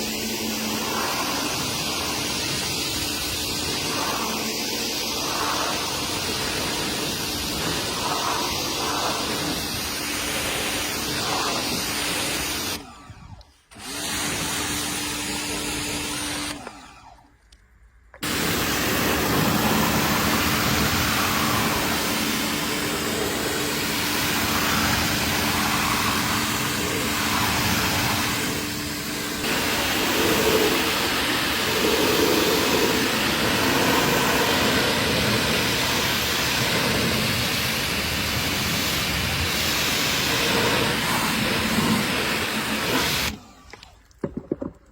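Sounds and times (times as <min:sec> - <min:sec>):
cleaning machine hissing: 0:00.0 - 0:16.9, 0:18.2 - 0:43.6.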